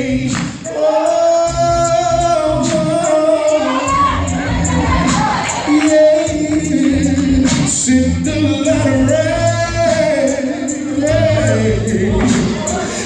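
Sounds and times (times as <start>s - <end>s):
band playing: 0.0s - 13.0s
crowd sound: 0.0s - 13.0s
gospel choir singing: 0.0s - 13.0s.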